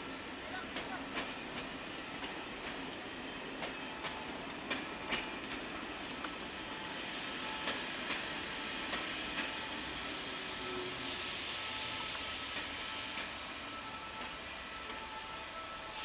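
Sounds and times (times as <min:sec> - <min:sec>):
train rumble: 0:00.0 - 0:16.0
train wheels clacking over rail joints: 0:00.5 - 0:09.8, 0:10.7 - 0:16.0.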